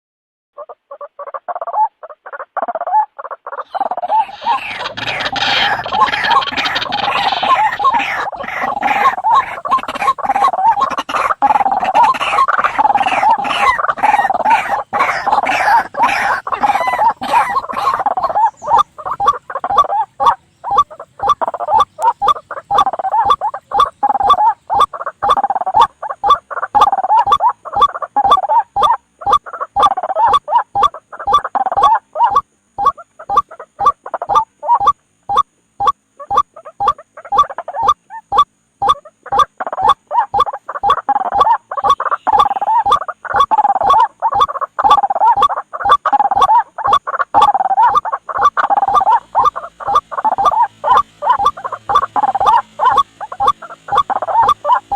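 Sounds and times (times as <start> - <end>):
waterhen croaking calls: 0.6 - 54.9.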